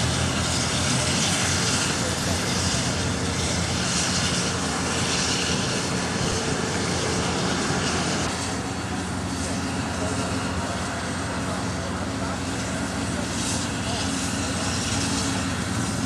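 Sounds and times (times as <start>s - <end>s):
steam locomotive rumble and hiss: 0.0s - 16.0s.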